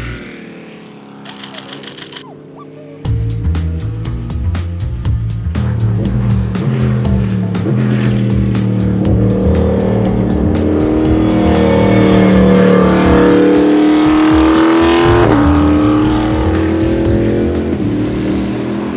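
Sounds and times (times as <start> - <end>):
race car engine accelerating: 0.0 - 18.9
music: 3.0 - 18.9.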